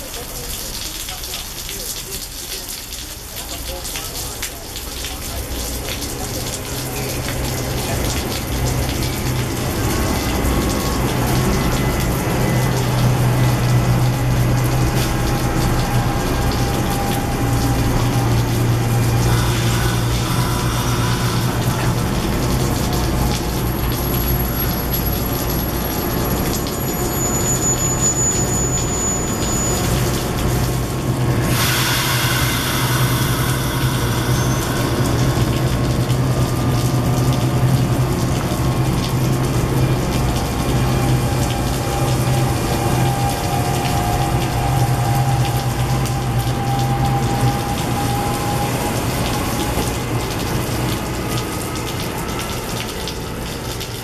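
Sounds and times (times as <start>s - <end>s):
rain and spray hissing: 0.0s - 54.0s
train hum and rumble: 2.4s - 54.0s.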